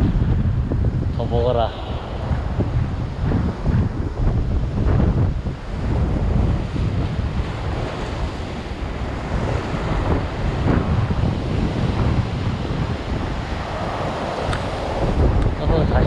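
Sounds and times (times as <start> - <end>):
surf breaking over rocks: 0.0 - 16.0
wind buffeting microphone: 0.0 - 16.0.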